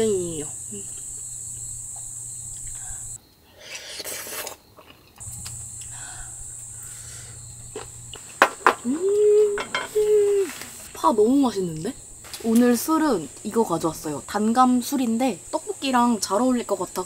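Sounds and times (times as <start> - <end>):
rustling hiss: 0.0 - 4.6, 5.2 - 17.0
crickets chirping: 0.0 - 17.0.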